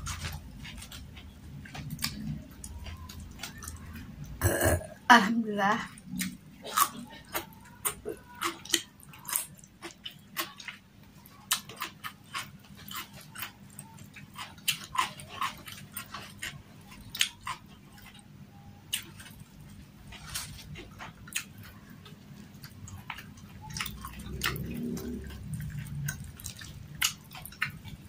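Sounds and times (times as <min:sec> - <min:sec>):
chewing with wet lip smacks: 0:00.0 - 0:04.4, 0:05.9 - 0:28.0.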